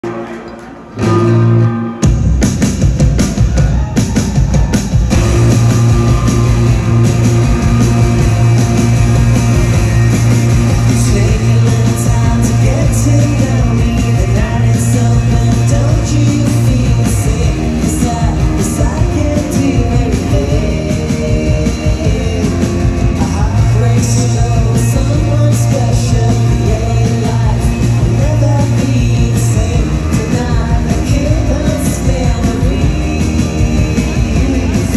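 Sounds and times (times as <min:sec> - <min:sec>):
bass: 0:00.0 - 0:34.9
drums: 0:00.0 - 0:34.9
electric guitars: 0:00.0 - 0:34.9
person singing: 0:05.1 - 0:34.9.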